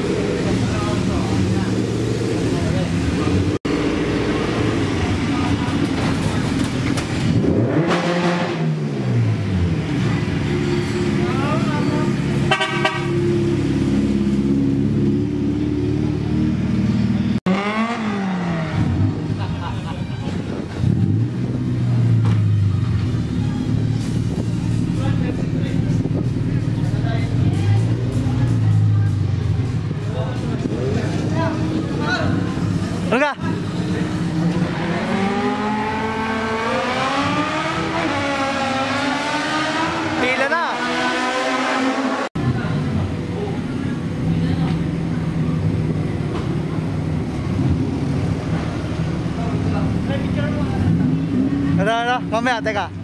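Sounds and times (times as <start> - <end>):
car engine accelerating hard: 0.0 - 19.4, 20.7 - 52.8.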